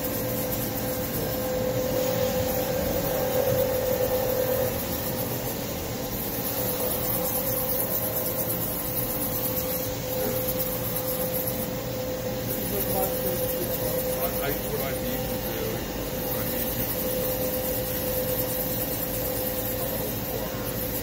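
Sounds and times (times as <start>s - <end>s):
machine hum: 0.0s - 21.0s
machine whine: 0.0s - 21.0s.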